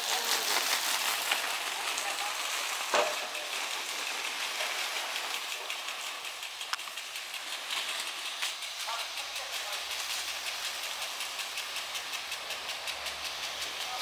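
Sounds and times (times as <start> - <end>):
sharp knocks of sprinkler: 0.0 - 14.0
sprinkler spraying water: 0.0 - 14.0.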